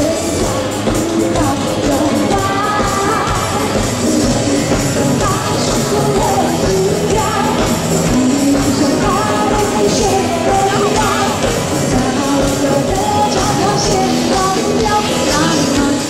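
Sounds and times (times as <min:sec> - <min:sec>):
rock music with steady beat: 0:00.0 - 0:16.0.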